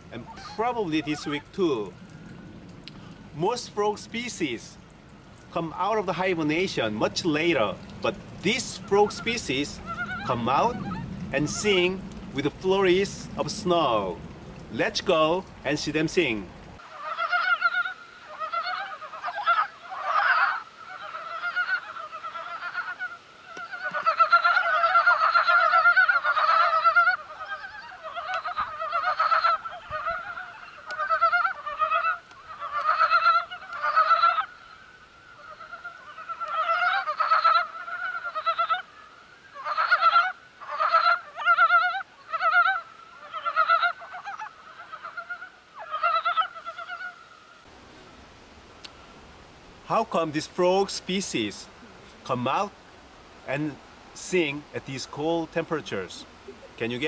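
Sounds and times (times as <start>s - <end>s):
chorus of frogs croaking: 0.0s - 15.6s, 16.8s - 47.7s.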